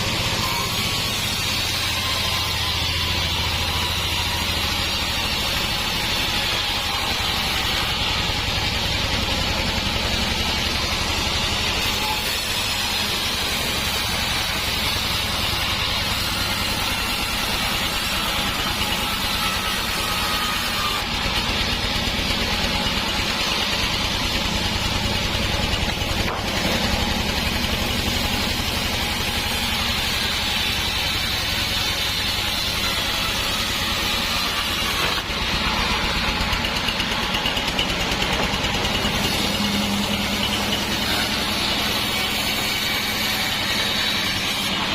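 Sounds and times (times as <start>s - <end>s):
band saw running: 0.0s - 44.9s.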